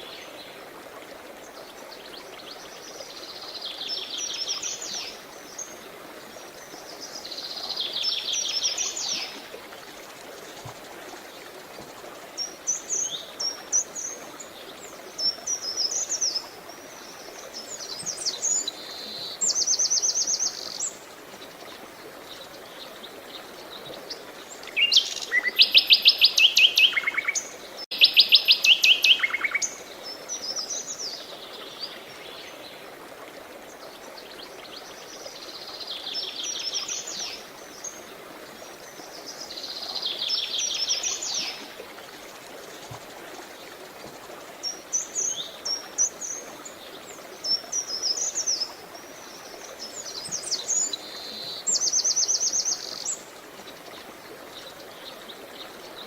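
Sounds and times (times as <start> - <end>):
flowing water: 0.0 - 56.0
songbirds chirping: 0.0 - 56.0.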